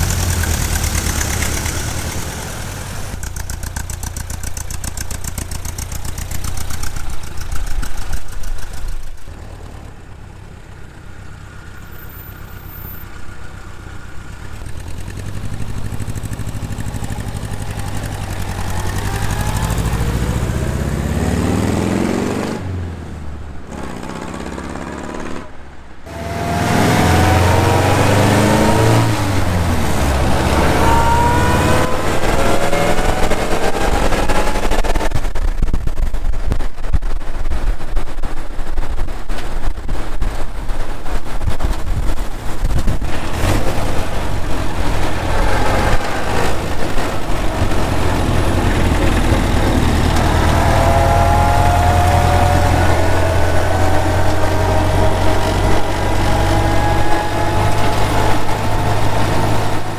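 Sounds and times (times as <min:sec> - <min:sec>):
car engine accelerating: 0:00.0 - 0:36.7, 0:40.0 - 0:59.9
wind and road noise: 0:00.0 - 0:59.9.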